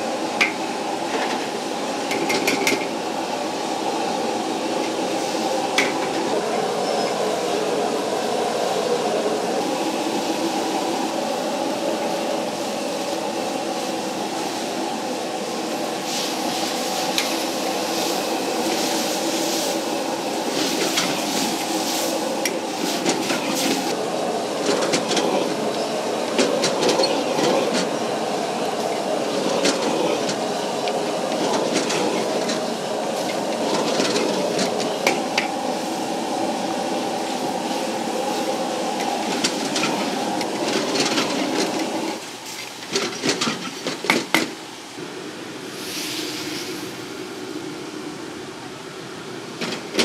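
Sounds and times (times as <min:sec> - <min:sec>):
gas burner rushing: 0:00.0 - 0:48.2.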